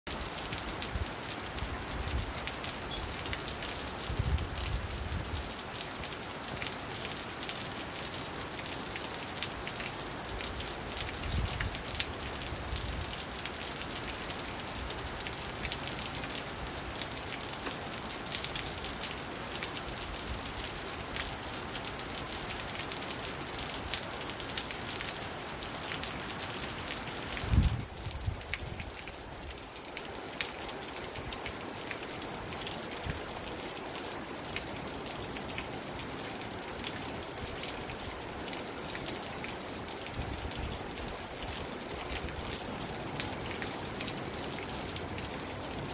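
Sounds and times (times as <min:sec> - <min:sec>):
rain on pavement and vehicles: 0:00.1 - 0:45.9.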